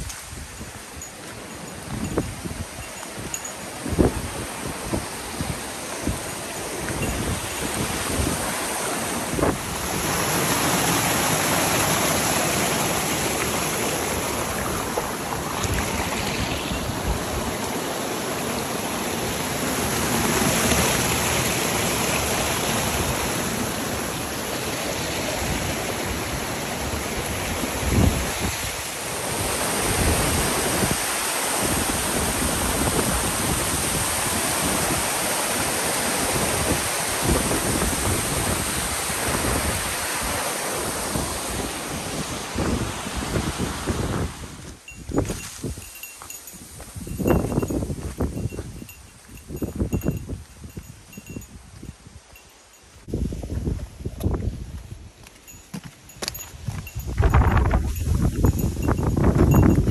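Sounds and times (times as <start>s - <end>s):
wind blowing on microphone: 0.0s - 18.0s, 25.0s - 59.9s.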